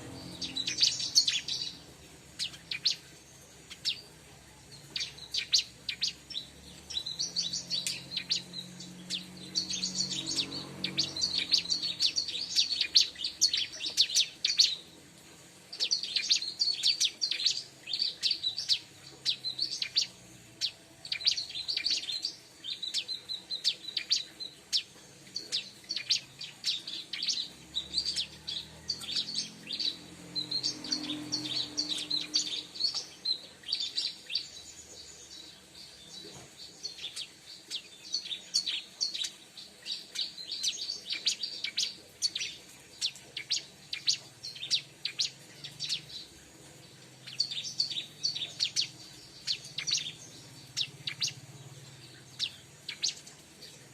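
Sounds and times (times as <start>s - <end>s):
bird chirping rapidly: 0.0s - 15.0s, 15.7s - 53.9s.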